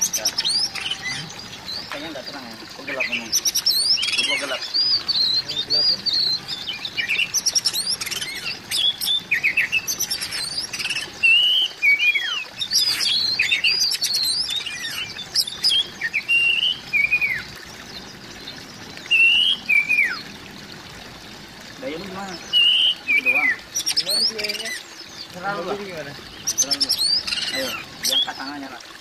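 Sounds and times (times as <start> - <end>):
bird singing: 0.0 - 20.4, 21.8 - 28.8.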